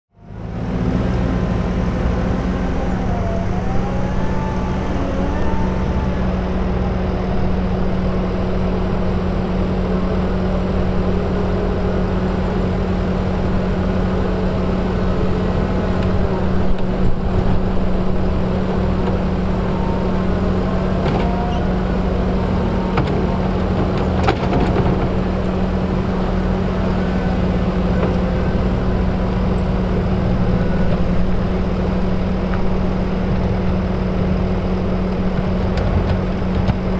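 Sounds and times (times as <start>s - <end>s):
diesel engine running under load: 0.1s - 36.9s
hydraulic whine: 0.3s - 33.0s.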